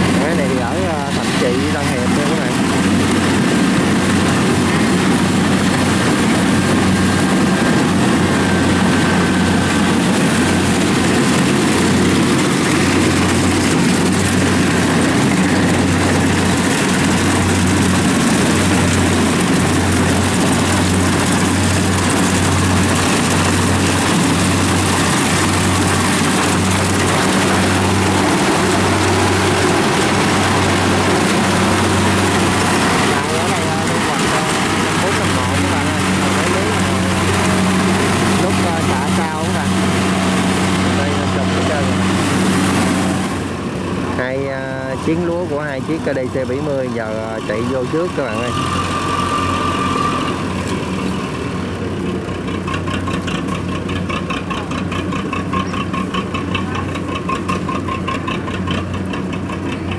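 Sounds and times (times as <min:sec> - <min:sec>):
combine harvester diesel drone: 0:00.0 - 0:59.9.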